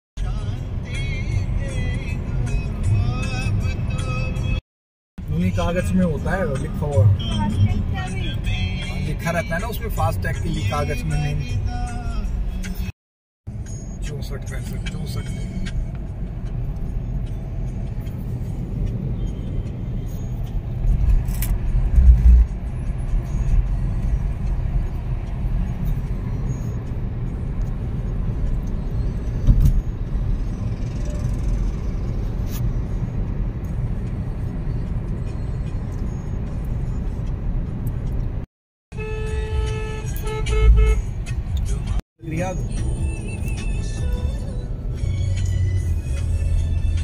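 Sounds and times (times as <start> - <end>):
car engine and road rumble: 0.2 - 4.6, 5.2 - 12.9, 13.5 - 47.0.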